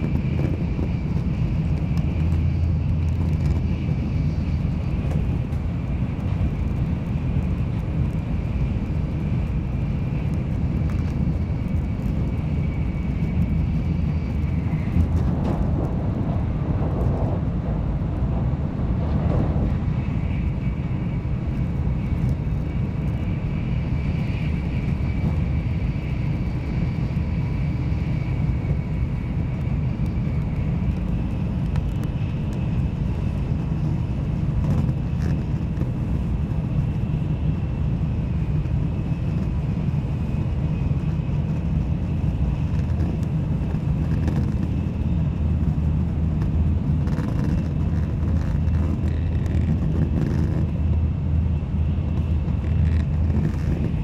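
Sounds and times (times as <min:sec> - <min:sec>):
train cabin rumble: 0:00.0 - 0:54.0.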